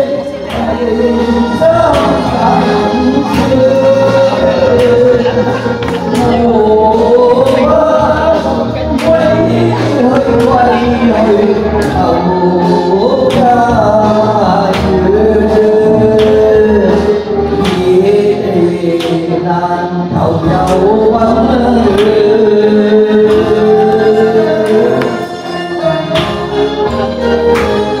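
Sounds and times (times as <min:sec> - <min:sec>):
backing track with drum beat: 0:00.0 - 0:28.0
harmonica melody: 0:00.0 - 0:28.0.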